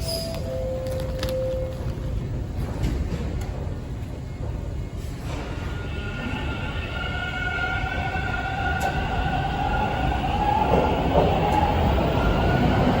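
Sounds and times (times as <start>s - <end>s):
subway train rumble and whine: 0.0s - 13.0s.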